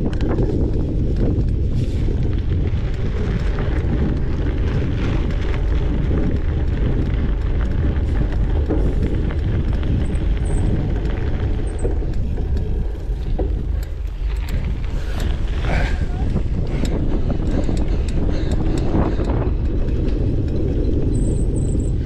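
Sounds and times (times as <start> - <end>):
bike clicks and rattles: 0.0 - 22.0
tyre noise on dirt: 0.0 - 22.0
wind buffeting microphone: 0.0 - 22.0.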